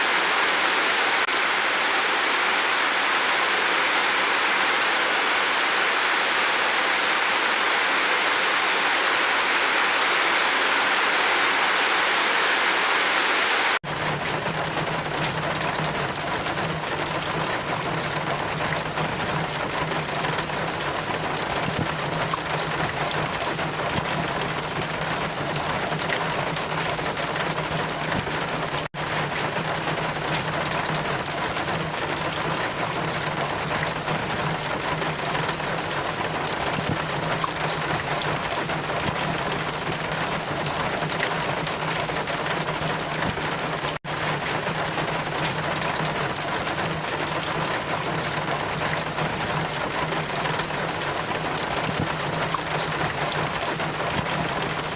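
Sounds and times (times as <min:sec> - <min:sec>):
steady rain with wind: 0:00.0 - 0:54.9.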